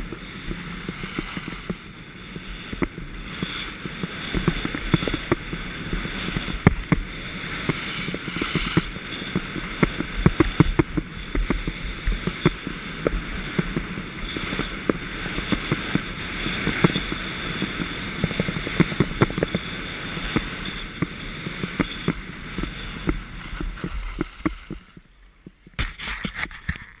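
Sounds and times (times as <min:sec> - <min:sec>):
skis scraping over snow: 0:00.0 - 0:27.0
wind rushing over camera: 0:00.0 - 0:27.0.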